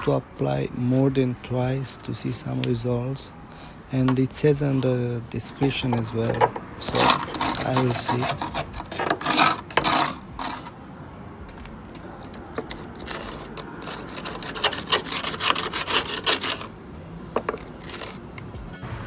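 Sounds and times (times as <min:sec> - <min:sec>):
scrubbing strokes on metal bodywork: 0:00.0 - 0:18.6.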